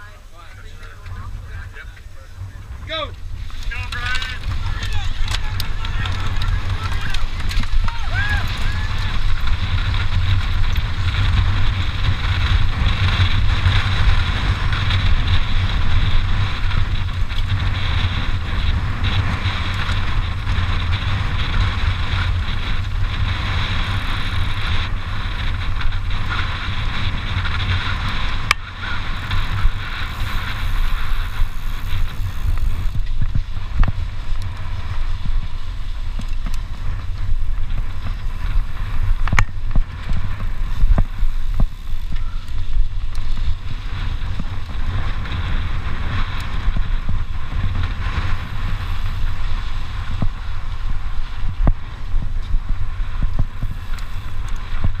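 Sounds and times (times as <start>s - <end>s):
bike rattles and clicks: 0.0s - 55.0s
tyres rolling on dirt road: 0.0s - 55.0s
wind rushing over microphone: 0.0s - 55.0s.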